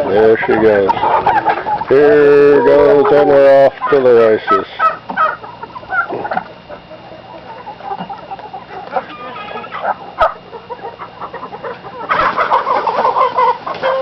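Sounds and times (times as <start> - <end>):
chickens clucking and squawking: 0.0 - 14.0.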